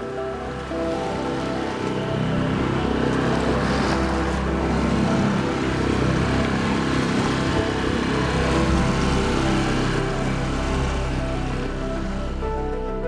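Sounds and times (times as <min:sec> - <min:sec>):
low motor hum: 0:00.0 - 0:13.0
water splashing along hull: 0:00.0 - 0:13.0.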